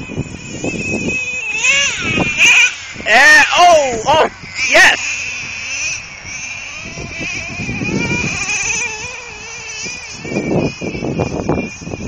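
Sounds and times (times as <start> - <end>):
model engine buzzing at high revs: 0.0 - 12.0.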